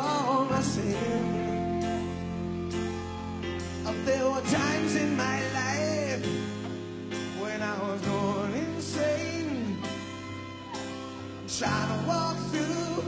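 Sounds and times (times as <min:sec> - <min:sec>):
electric guitar and bass chords: 0:00.0 - 0:13.0
man singing: 0:00.0 - 0:13.0.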